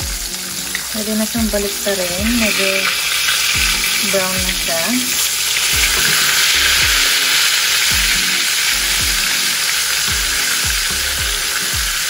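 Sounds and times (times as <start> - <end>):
repeating background music: 0.0 - 2.9, 3.5 - 12.0
fish sizzling in oil: 0.0 - 12.0.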